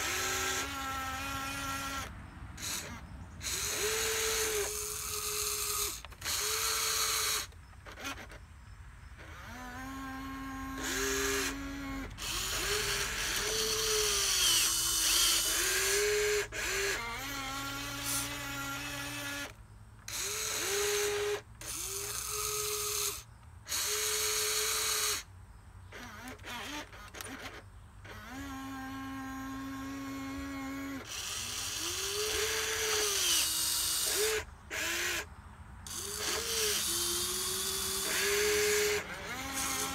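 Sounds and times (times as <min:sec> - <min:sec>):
small electric gear motors whining: 0:00.0 - 0:39.9.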